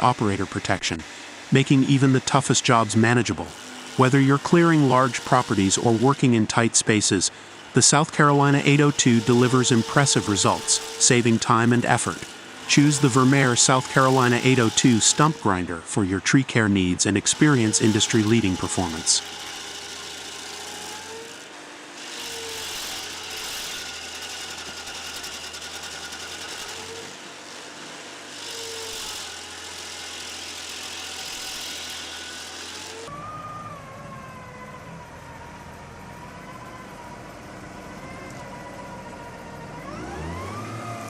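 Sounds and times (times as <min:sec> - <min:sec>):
cutter grinding wood: 0:00.0 - 0:33.4, 0:38.3 - 0:41.0
stump grinder engine: 0:00.0 - 0:33.4, 0:39.1 - 0:41.0.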